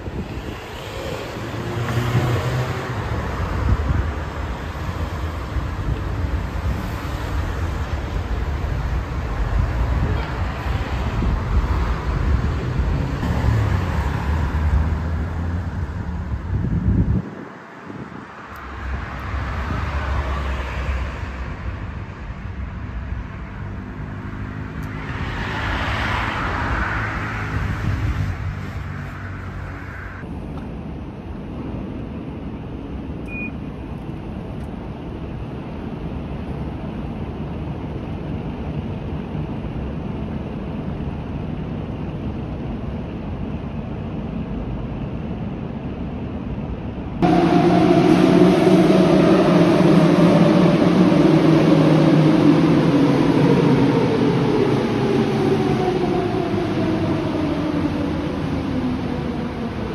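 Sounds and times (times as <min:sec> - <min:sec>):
metro station hum: 0:00.0 - 0:23.6, 0:31.1 - 0:59.9.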